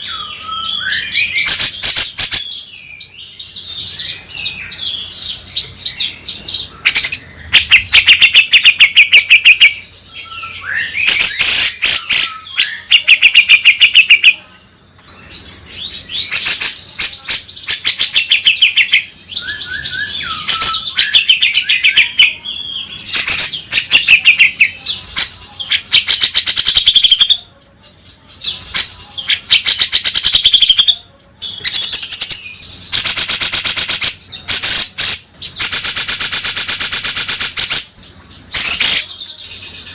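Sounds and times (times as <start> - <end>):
bird rattling song: 3.4 - 27.7, 28.4 - 39.9.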